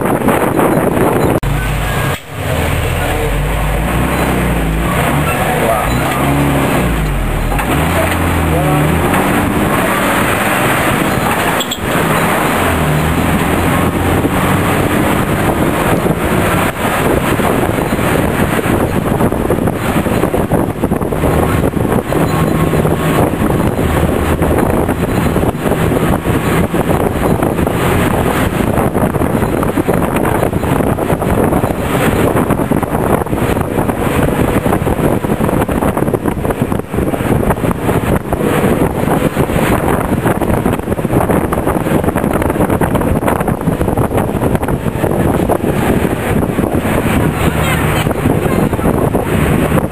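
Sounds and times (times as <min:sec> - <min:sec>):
vehicle engine and road noise: 0:00.0 - 0:49.9
wind buffeting microphone: 0:00.0 - 0:49.9.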